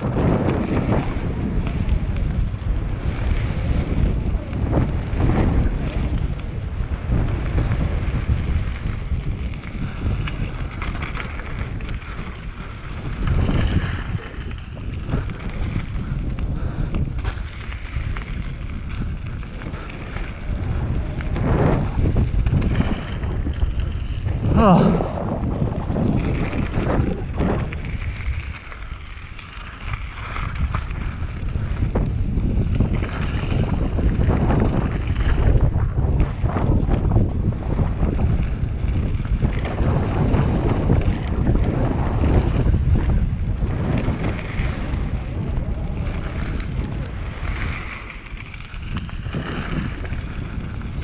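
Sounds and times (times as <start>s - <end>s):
bike rattles and clicks: 0.0s - 51.0s
tyres rolling over gravel: 0.0s - 51.0s
wind buffeting microphone: 0.0s - 51.0s.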